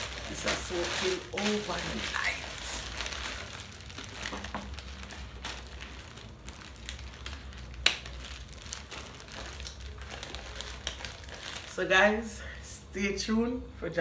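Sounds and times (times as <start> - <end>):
plastic gloves crinkling: 0.0 - 12.5.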